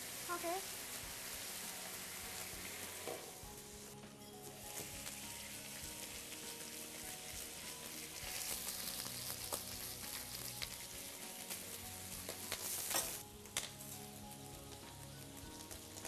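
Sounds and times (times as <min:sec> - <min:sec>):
water sizzling on hot griddle: 0:00.0 - 0:16.0.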